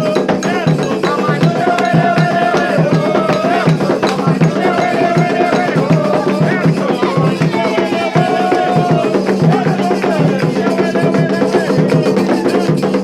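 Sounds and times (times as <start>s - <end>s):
hand drums playing rhythm: 0.0s - 13.0s
struck bell or wood block: 0.0s - 13.0s
voices singing a chant: 0.0s - 13.0s.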